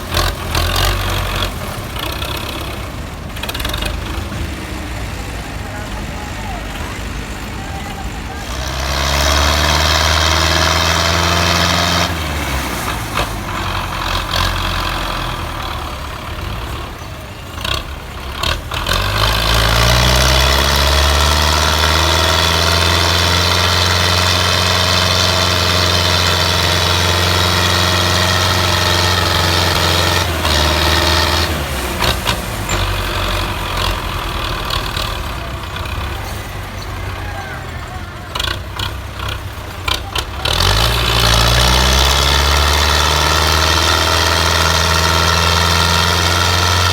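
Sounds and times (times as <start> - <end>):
tractor diesel engine working hard: 0.0 - 46.9.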